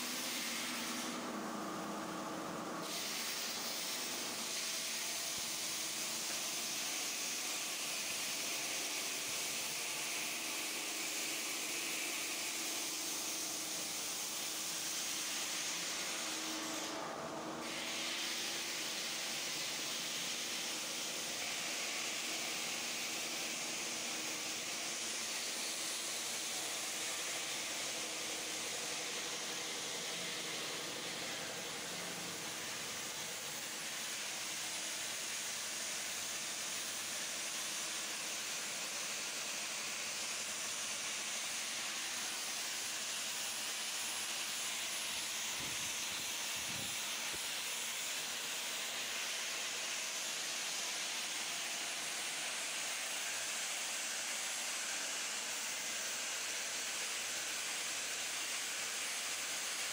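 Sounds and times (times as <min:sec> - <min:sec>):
stone-cutting machinery hissing: 0:00.0 - 0:59.9.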